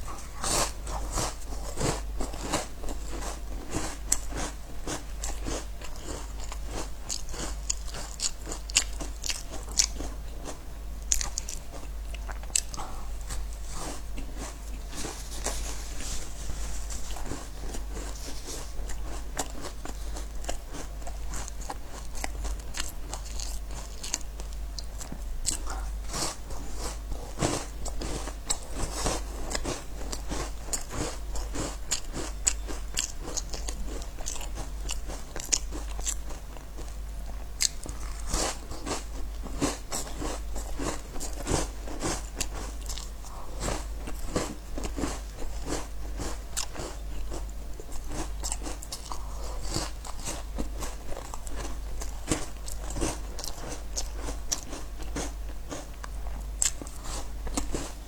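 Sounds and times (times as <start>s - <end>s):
chewing crisp biscuits: 0.0s - 58.0s.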